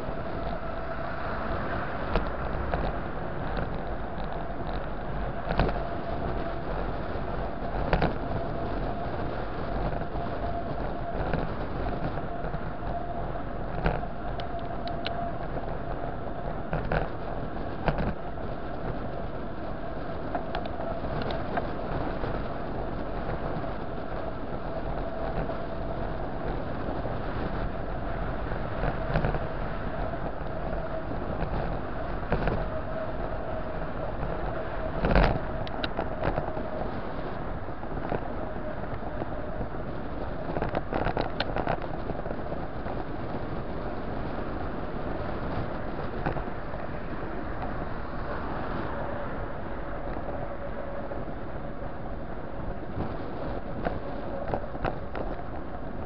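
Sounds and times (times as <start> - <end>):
faint steady whine: 0.0 - 56.0
tyre and wind noise: 0.0 - 56.0.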